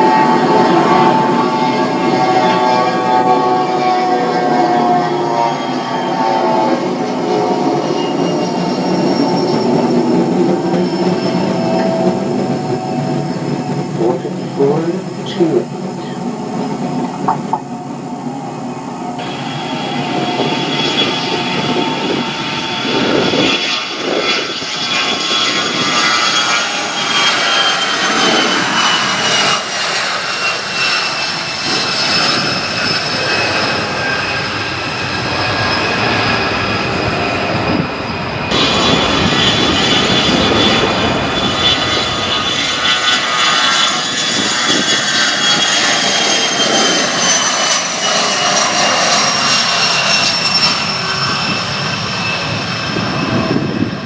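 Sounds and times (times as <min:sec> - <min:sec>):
jet engines roaring: 0:00.0 - 0:54.0
turbine whine: 0:00.0 - 0:54.0.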